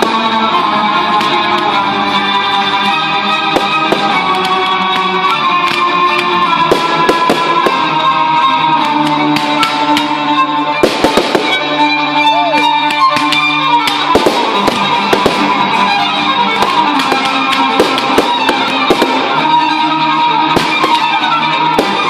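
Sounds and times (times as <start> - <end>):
fireworks bangs and crackles: 0.0 - 22.0
music with held string tones: 0.0 - 22.0.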